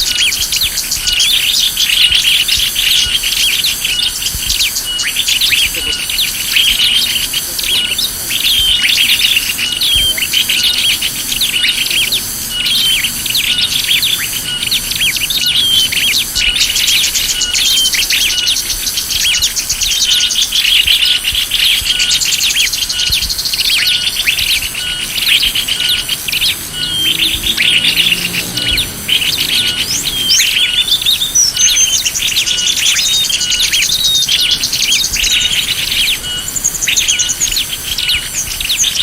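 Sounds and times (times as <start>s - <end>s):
fast bird trill: 0.0s - 39.0s
high-pitched pulsing: 0.0s - 39.0s
small birds chirping and twittering: 0.0s - 39.0s.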